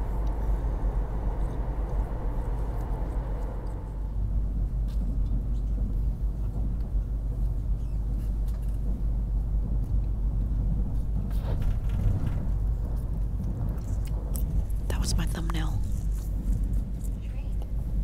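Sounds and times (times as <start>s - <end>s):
train running low rumble: 0.0s - 18.0s.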